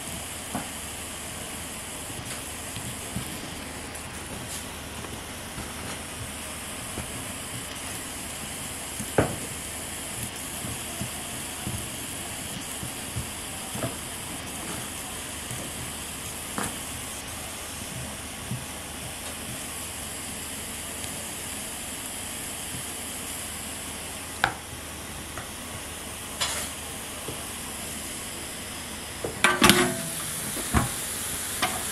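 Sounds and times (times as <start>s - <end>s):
sizzling hiss: 0.0s - 31.9s.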